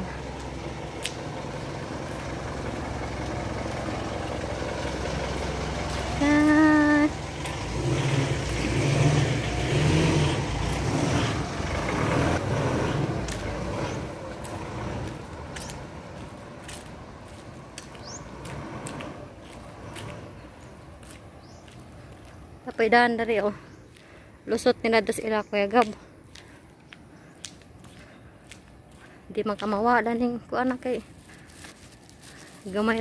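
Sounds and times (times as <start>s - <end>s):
car engine driving: 0.0s - 33.0s.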